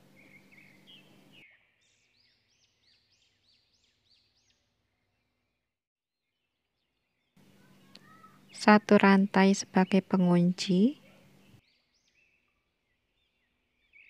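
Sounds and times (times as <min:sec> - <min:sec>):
faint bird chirps: 0:00.0 - 0:05.5, 0:06.4 - 0:14.0.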